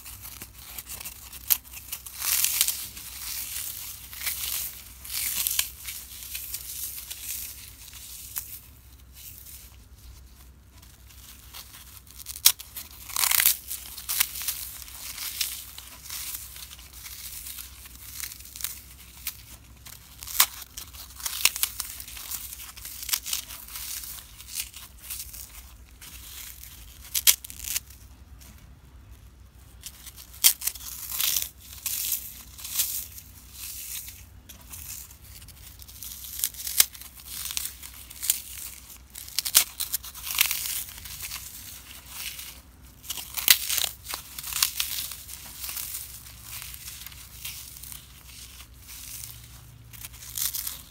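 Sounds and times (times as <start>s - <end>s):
floral foam crunching: 0.0s - 50.9s.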